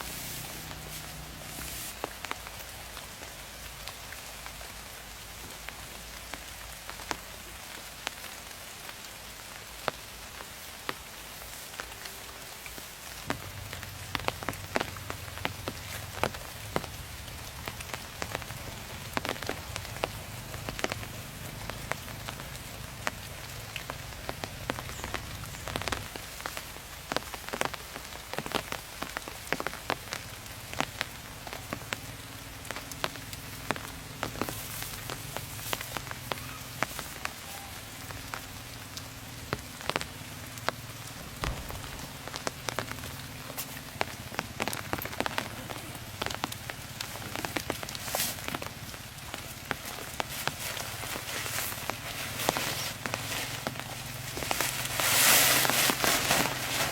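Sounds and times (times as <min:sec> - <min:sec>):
rain hiss: 0:00.0 - 0:56.9
raindrops tapping: 0:00.0 - 0:56.9.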